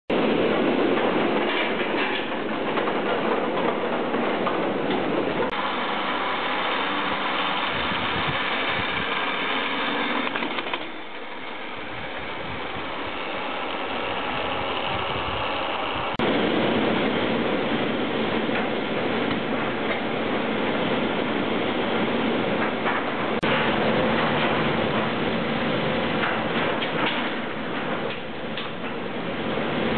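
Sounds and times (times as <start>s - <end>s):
chairlift machinery rattling: 0.1s - 29.9s
haul rope running noise: 0.1s - 29.9s.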